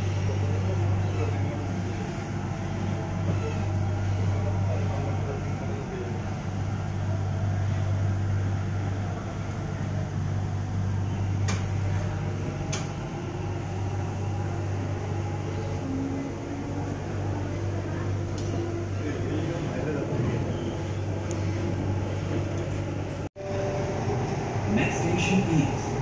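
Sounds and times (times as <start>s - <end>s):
train running hum and rumble: 0.0s - 26.0s.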